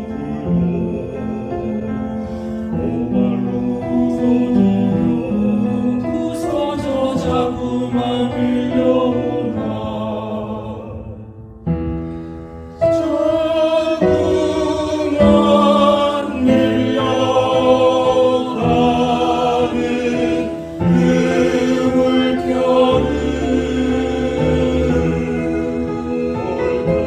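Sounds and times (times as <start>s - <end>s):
piano accompaniment: 0.0s - 27.0s
vocal ensemble singing in harmony: 0.0s - 27.0s.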